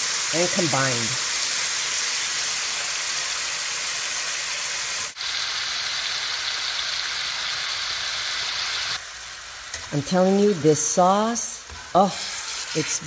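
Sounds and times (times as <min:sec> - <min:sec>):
sauce sizzling in a skillet: 0:00.0 - 0:13.0.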